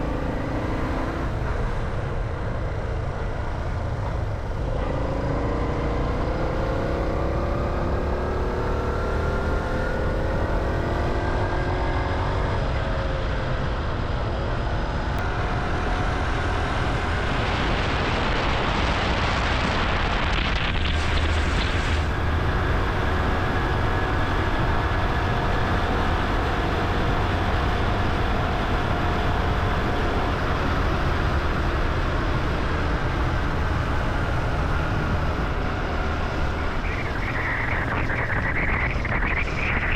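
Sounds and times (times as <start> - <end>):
motorcycle engine accelerating: 0.0 - 39.9
wind rumble on microphone: 0.0 - 39.9.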